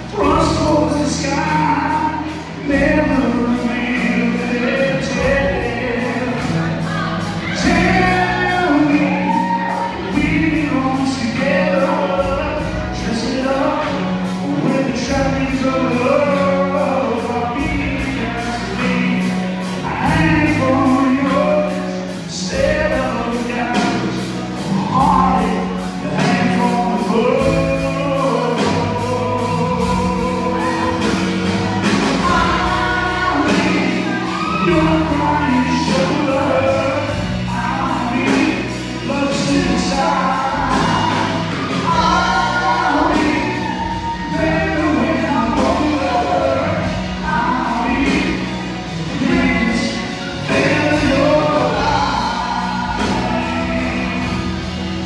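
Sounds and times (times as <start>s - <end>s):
live band playing: 0.0s - 55.0s
people singing: 0.0s - 55.0s.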